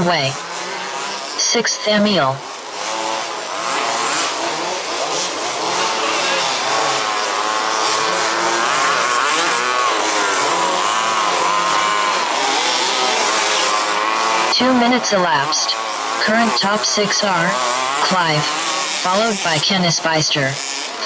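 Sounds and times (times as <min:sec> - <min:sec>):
small two-stroke engines buzzing: 0:00.0 - 0:21.0.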